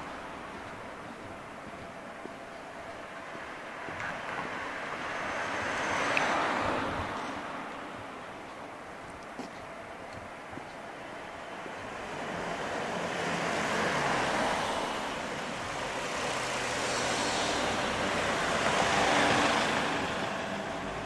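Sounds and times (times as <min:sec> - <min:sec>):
road vehicles passing: 0:00.0 - 0:21.0.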